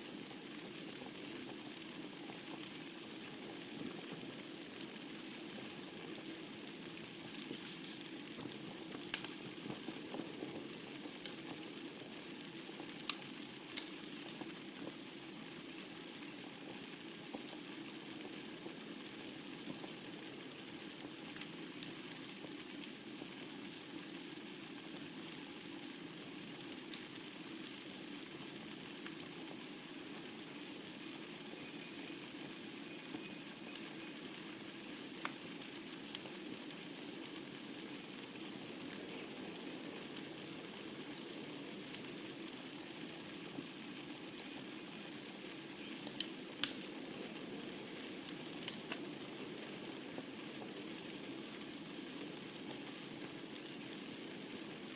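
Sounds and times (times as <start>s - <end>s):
fire hissing: 0.0s - 31.6s, 32.2s - 54.9s
wood fire crackling and popping: 0.0s - 54.9s.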